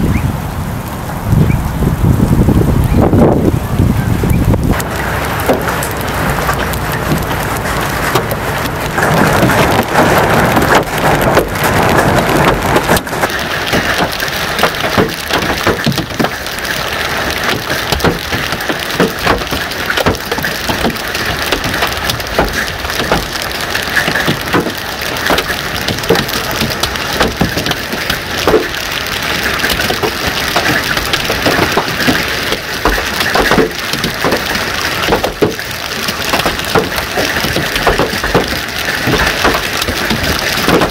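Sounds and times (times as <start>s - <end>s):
heavy rain: 0.0s - 40.9s
hailstone impacts clattering: 4.7s - 40.9s.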